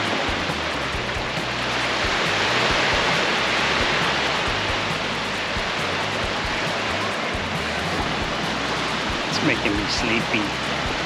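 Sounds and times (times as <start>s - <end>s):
waves washing on sandy beach: 0.0s - 11.0s.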